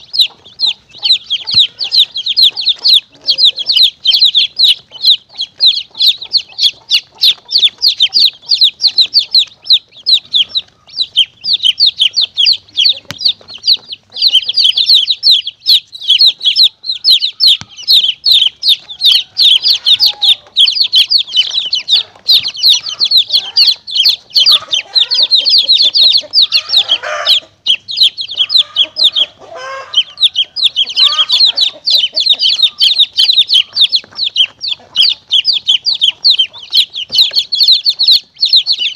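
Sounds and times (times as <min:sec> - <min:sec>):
chicken clucks: 0:00.0 - 0:38.9
chicks peeping: 0:00.0 - 0:38.9.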